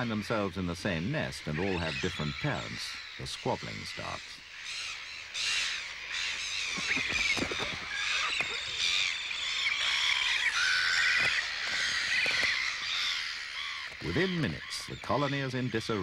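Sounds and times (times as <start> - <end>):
gull colony calling: 0.0 - 16.0.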